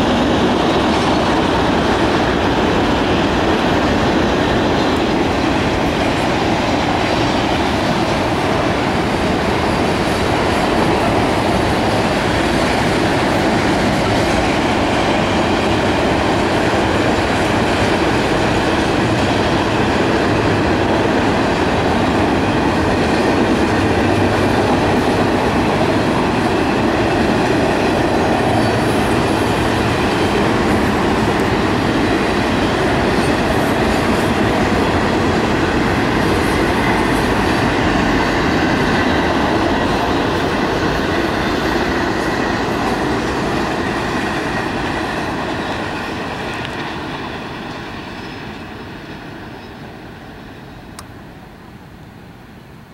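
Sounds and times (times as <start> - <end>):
freight train rolling past: 0.0 - 52.9.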